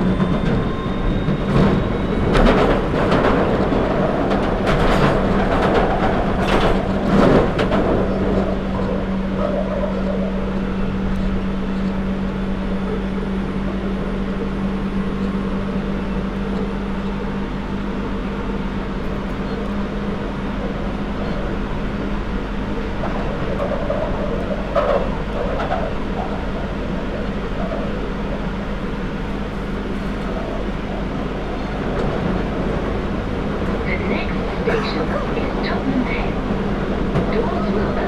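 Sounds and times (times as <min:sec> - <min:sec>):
train motor hum: 0:00.0 - 0:38.0
train rumbling: 0:00.0 - 0:38.0.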